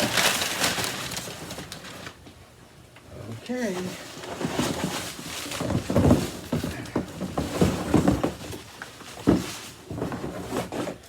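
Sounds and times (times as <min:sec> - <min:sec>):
cardboard packaging rustling: 0:00.0 - 0:02.2, 0:03.6 - 0:11.0.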